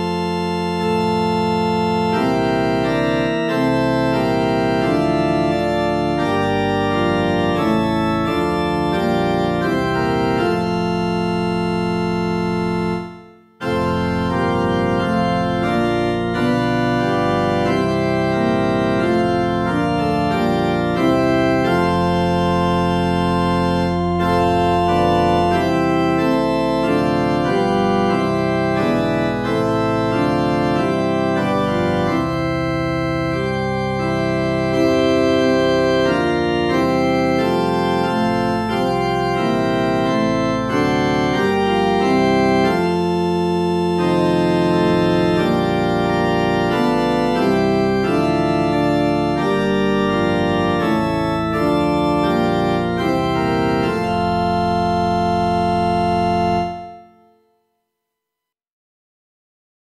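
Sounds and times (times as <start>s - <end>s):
organ music: 0.0s - 57.6s.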